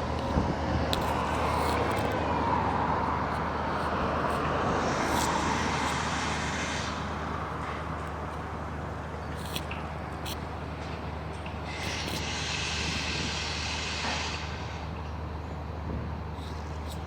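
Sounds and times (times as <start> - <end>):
engine low hum: 0.0 - 17.0.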